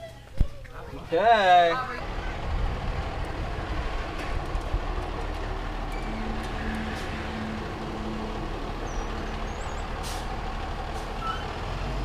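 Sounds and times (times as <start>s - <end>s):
fire engine diesel engine rumbling: 1.2s - 12.0s.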